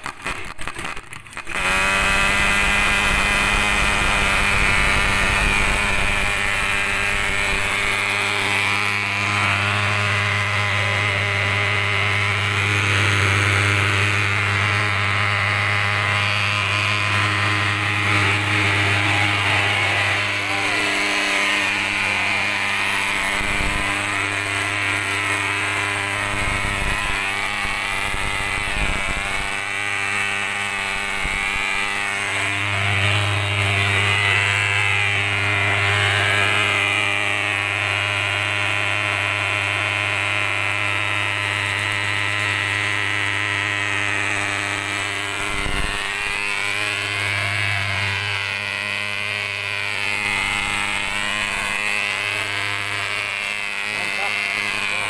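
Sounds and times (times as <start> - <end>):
pulse-jet engine buzzing drone: 0.0 - 55.0.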